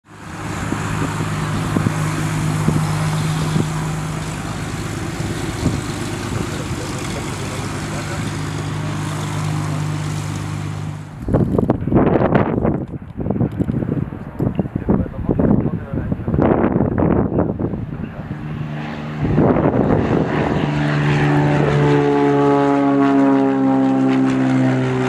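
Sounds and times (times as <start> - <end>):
airplane engine droning: 0.0 - 25.0
gusting noise: 0.0 - 25.0.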